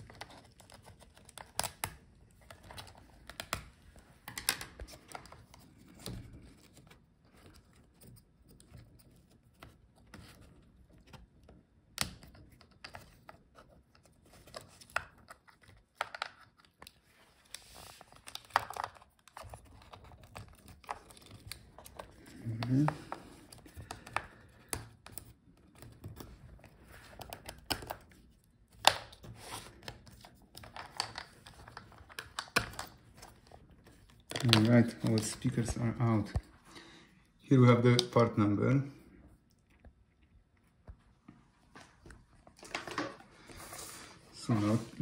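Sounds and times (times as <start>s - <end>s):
small clicks and plastic crinkles: 0.0s - 36.6s, 39.0s - 43.3s.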